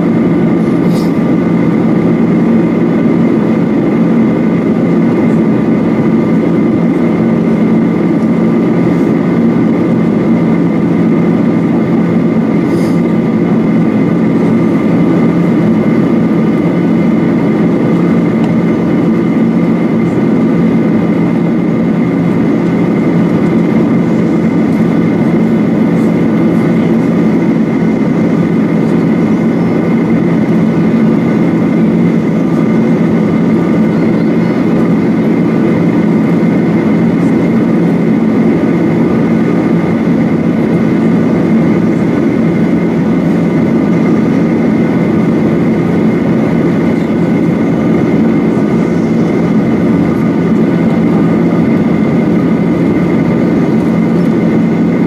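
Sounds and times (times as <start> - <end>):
faint high engine whines: 0.0 - 55.0
jet engine drone: 0.0 - 55.0
rushing airflow: 0.0 - 55.0.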